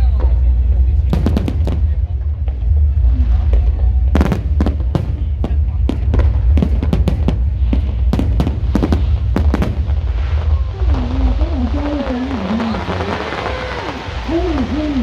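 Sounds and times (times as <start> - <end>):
heavy low rumble: 0.0 - 15.0
fireworks bangs: 0.1 - 15.0.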